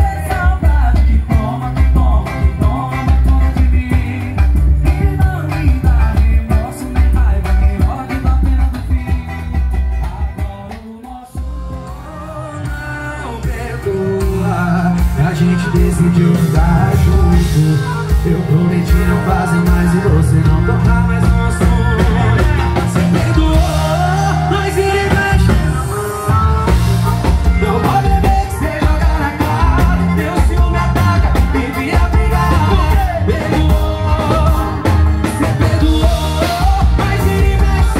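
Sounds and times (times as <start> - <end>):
live band through pa system: 0.0 - 37.9.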